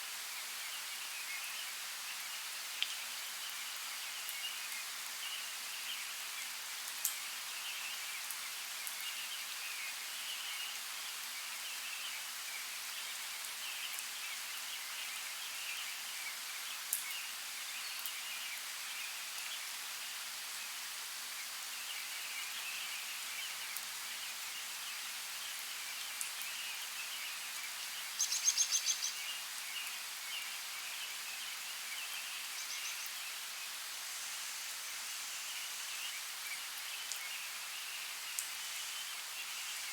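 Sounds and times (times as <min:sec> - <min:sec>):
light rain hissing: 0:00.0 - 0:39.9.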